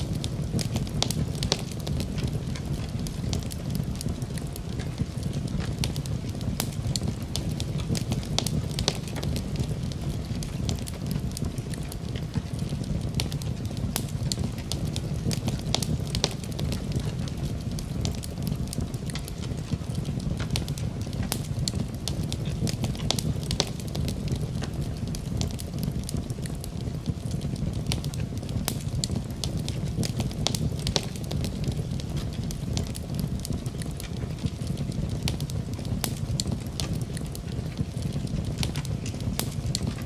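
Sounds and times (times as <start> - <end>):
flames rumbling: 0.0 - 40.0
wood crackling and popping: 0.0 - 40.0.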